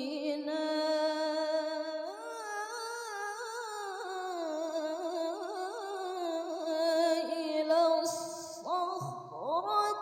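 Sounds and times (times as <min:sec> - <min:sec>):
woman reciting melodically: 0:00.0 - 0:10.0.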